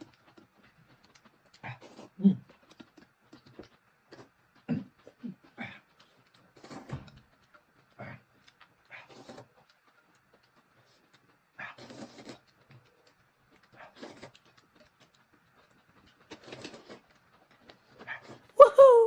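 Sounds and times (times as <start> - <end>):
chewing and slurping: 0.0 - 18.6.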